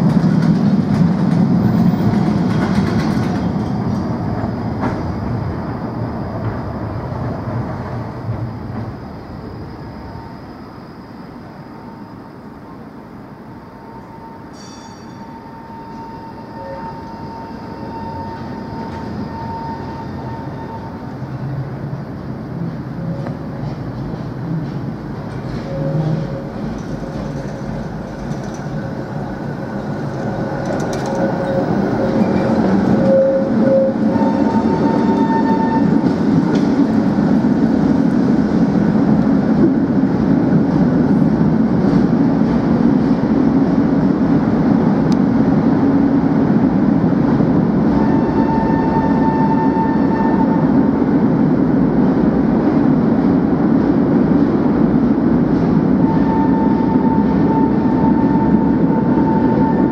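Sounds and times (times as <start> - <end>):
tram wheels rumbling on track: 0.0 - 59.9.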